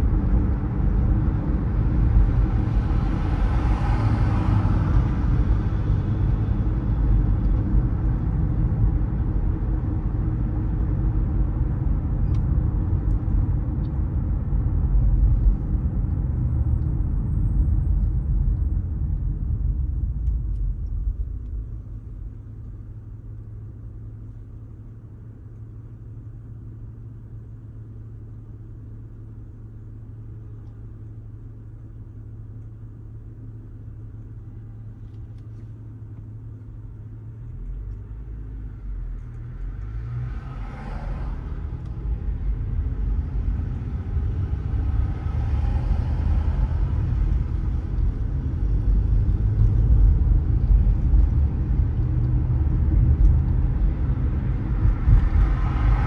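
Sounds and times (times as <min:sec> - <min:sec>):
engine idling hum: 0:00.0 - 0:40.0, 0:41.3 - 0:56.0
car road and engine rumble: 0:00.0 - 0:56.0.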